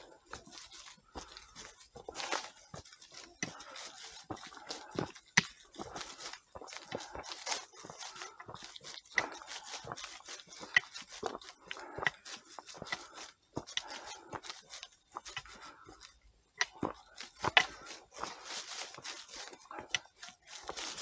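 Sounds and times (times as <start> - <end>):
footsteps crunching on trail: 0.0 - 21.0.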